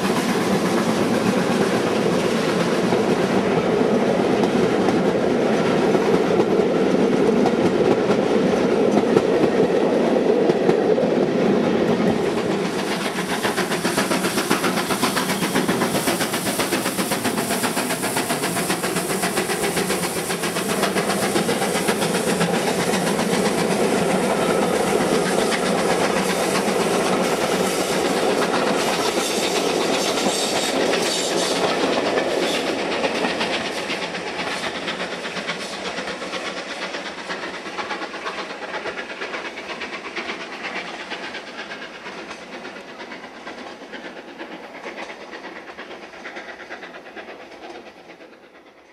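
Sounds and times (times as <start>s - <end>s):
steam train passing: 0.0s - 48.9s.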